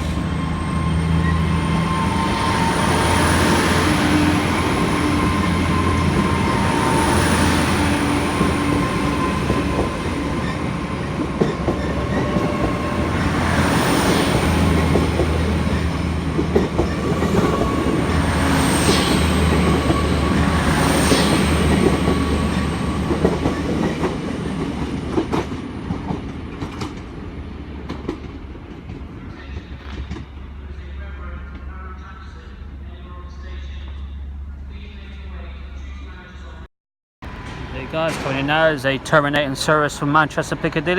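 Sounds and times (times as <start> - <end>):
train engine and traction hum: 0.0 - 40.9.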